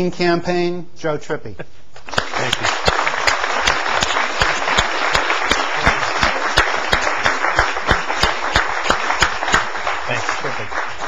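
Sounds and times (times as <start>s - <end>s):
audience applauding: 2.0s - 11.0s
single claps near microphone: 2.0s - 11.0s.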